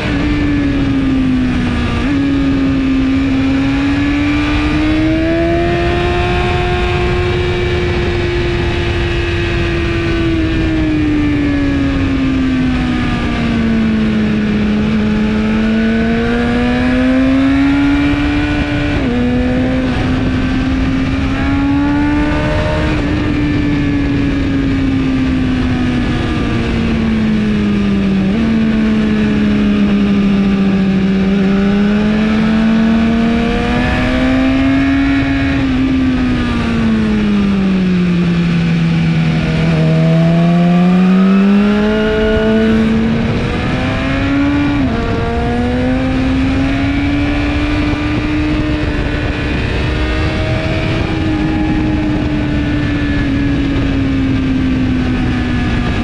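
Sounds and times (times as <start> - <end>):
motorcycle engine at speed: 0.0 - 56.0
wind rushing on microphone: 0.0 - 56.0.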